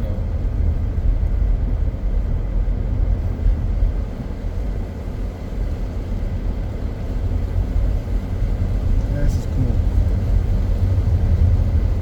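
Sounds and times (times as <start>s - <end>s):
car interior road and engine rumble: 0.0s - 12.0s.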